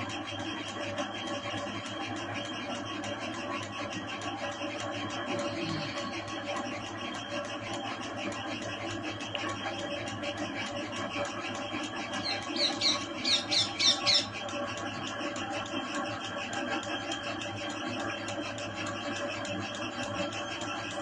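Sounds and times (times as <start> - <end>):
constant machine hum: 0.0 - 21.0
milking machine pulsator ticking: 0.0 - 21.0.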